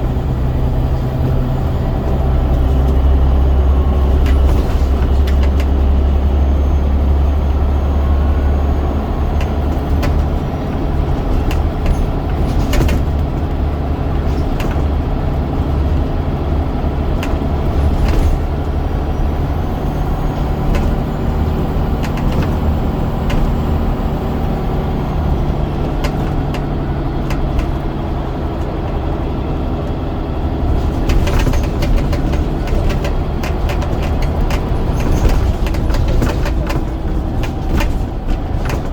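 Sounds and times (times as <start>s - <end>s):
bus diesel engine rumble: 0.0s - 38.9s
bodywork knocks and rattles: 0.7s - 6.5s, 7.2s - 38.9s.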